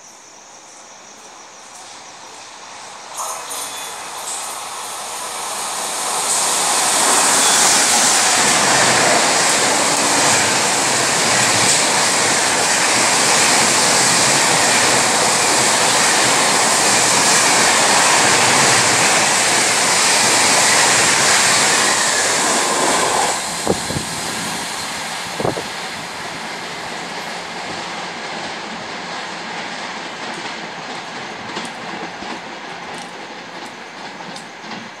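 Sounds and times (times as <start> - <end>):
train passing at high speed: 1.8 - 35.0
train rumble: 1.8 - 35.0.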